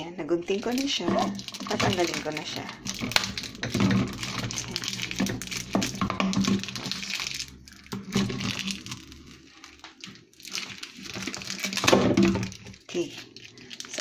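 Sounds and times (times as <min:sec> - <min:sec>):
plastic label peeling and crinkling: 0:00.5 - 0:14.0.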